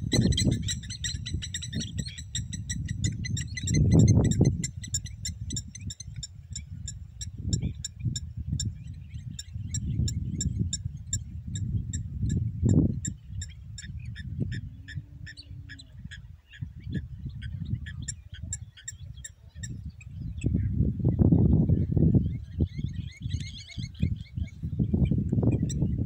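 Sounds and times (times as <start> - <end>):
birds chirping rapidly: 0.0 - 26.0
wind buffeting microphone: 0.0 - 26.0.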